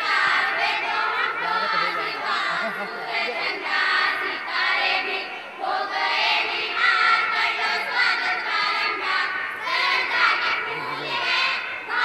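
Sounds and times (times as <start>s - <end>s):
girls singing in chorus: 0.0s - 12.0s.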